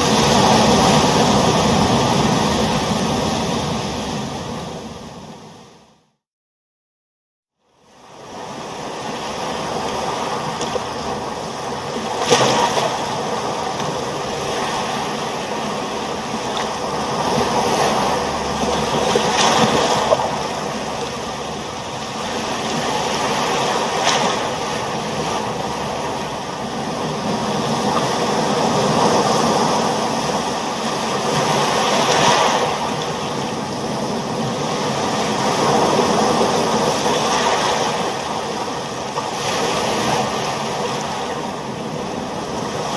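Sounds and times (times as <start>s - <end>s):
surf crashing: 0.0s - 5.6s, 8.3s - 42.9s
ocean waves washing: 0.0s - 5.8s, 8.0s - 42.9s.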